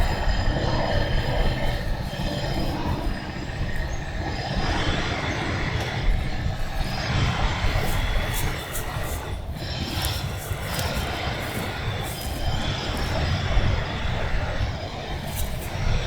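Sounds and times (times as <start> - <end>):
construction machinery rumble: 0.0 - 16.0.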